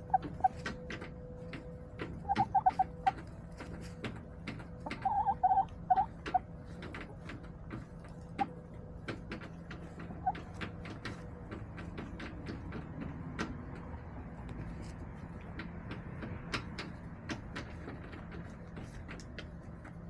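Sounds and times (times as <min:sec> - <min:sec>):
hens clucking softly: 0:00.0 - 0:20.0
hens tapping and clicking: 0:00.0 - 0:20.0.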